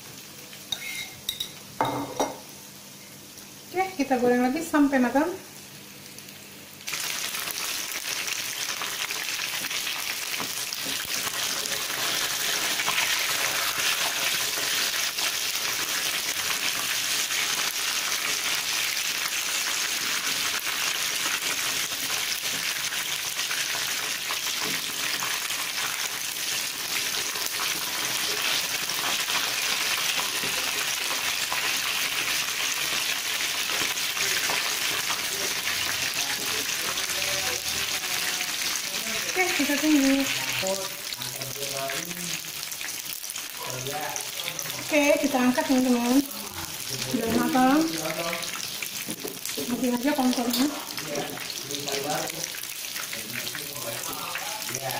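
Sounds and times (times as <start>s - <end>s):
chicken wings deep-frying in oil: 3.7s - 54.9s.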